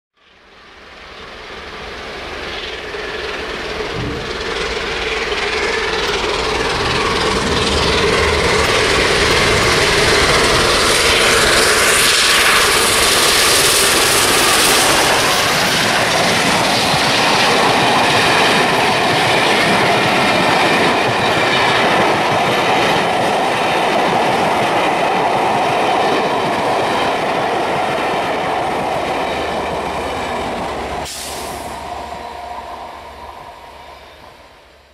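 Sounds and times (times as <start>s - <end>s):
train wheels rumbling over rails: 0.2s - 34.9s.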